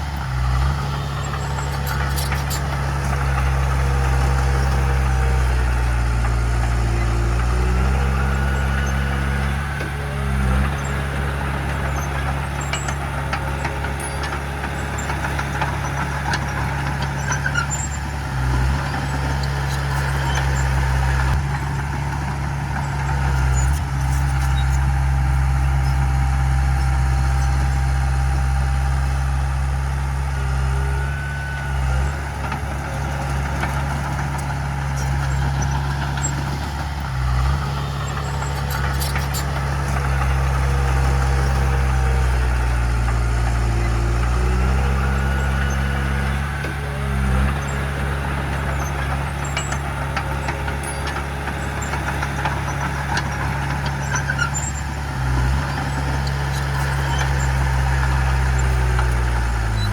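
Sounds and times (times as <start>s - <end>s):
heavy diesel machine droning: 0.0s - 59.9s.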